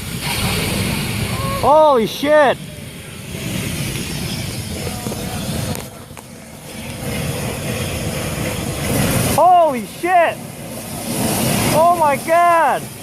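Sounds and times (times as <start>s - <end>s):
fire rushing: 0.0s - 13.0s.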